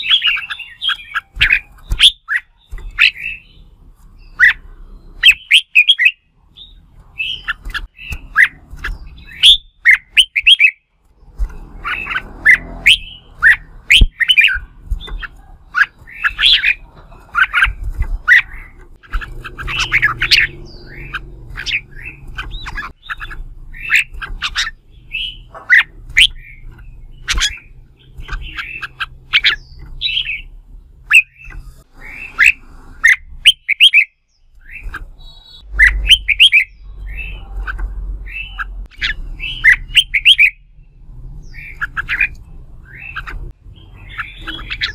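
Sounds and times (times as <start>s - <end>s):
bird singing whistled notes: 0.0s - 3.6s, 4.2s - 10.9s, 11.6s - 16.8s, 19.4s - 44.9s.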